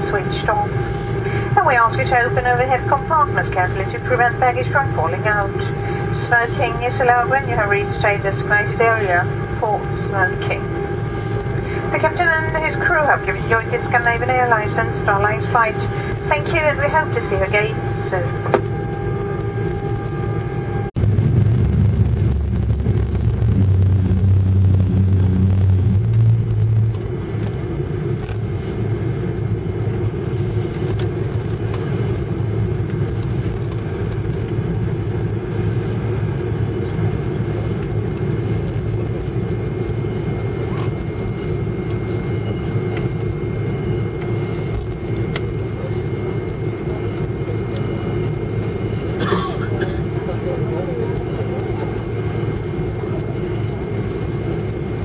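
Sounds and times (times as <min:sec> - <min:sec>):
deeper hum: 0:00.0 - 0:55.0
jet engine low rumble: 0:00.0 - 0:55.0.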